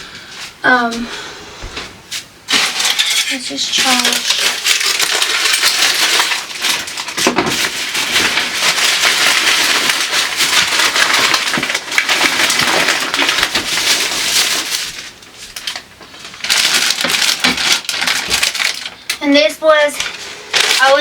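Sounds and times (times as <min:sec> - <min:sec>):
plastic packaging crackling: 0:02.5 - 0:21.0.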